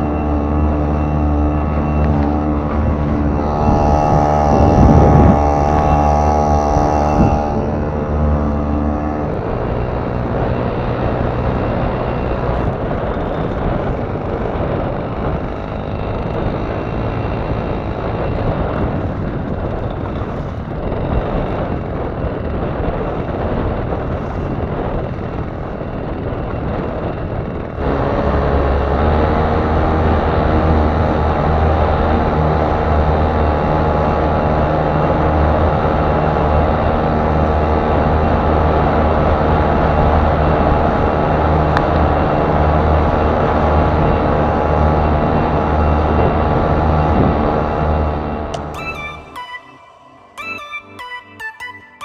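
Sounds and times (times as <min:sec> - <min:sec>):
small outboard motor running: 0:00.0 - 0:50.3
heavy wind noise: 0:00.0 - 0:51.0.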